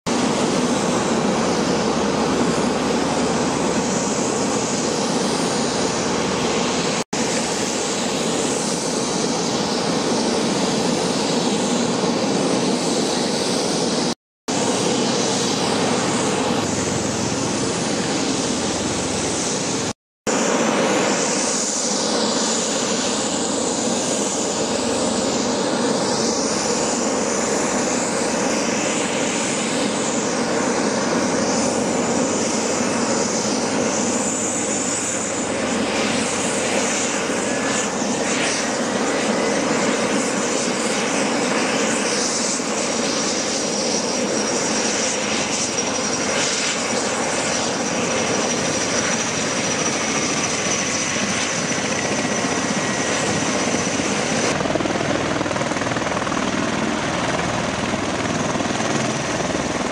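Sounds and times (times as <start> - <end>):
aircraft rotors and engines: 0.1 - 59.9.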